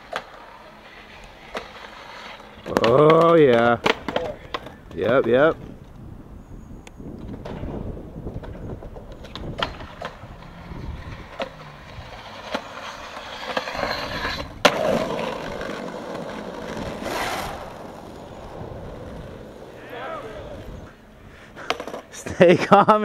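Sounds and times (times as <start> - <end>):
skateboard scraping grind: 0.0 - 4.8, 7.2 - 22.4
skateboard cracking: 0.0 - 5.7, 7.2 - 20.9
skateboard rolling: 0.0 - 23.0.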